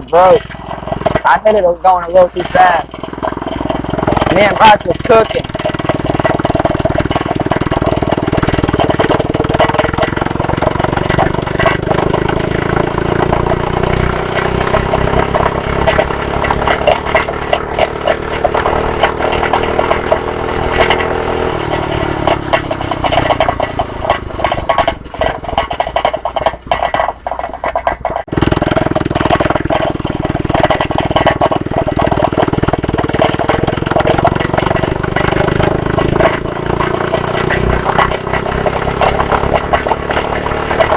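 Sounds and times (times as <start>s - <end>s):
dirt bike motor running: 0.0s - 40.9s
rattles and knocks: 0.0s - 40.9s.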